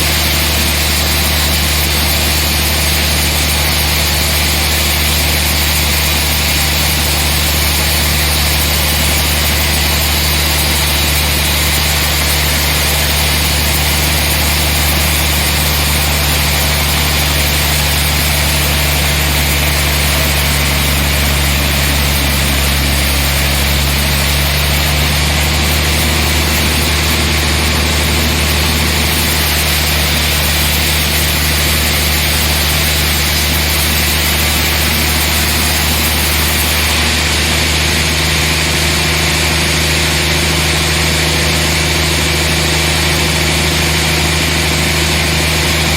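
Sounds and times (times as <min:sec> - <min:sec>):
machinery hiss: 0:00.0 - 0:39.5
sawmill machinery engine drone: 0:00.0 - 0:45.9.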